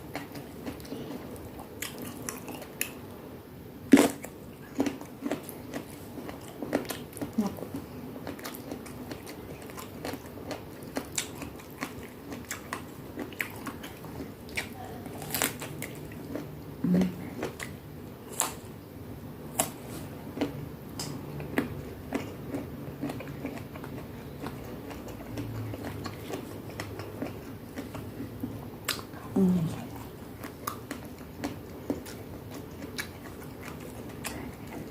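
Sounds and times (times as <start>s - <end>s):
chewing crunchy food: 0.0s - 3.1s, 3.9s - 18.7s, 19.5s - 34.9s.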